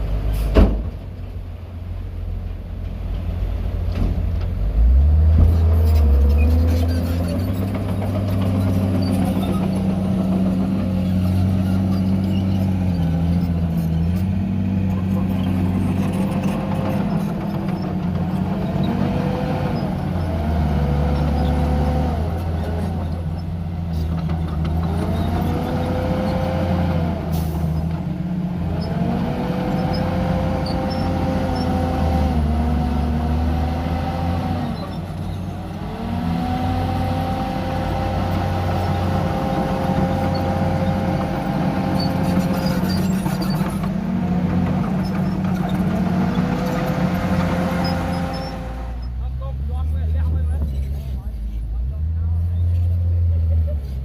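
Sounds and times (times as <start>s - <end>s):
bulldozer diesel engine revving: 3.3s - 54.0s.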